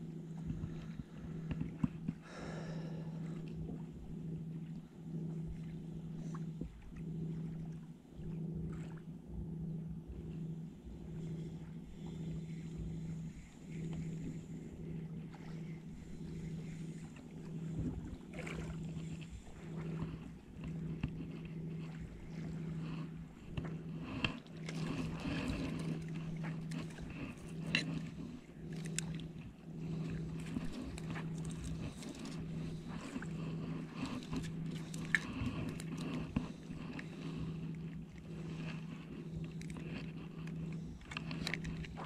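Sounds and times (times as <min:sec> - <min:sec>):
fishing reel gear hum: 0:00.0 - 0:42.0.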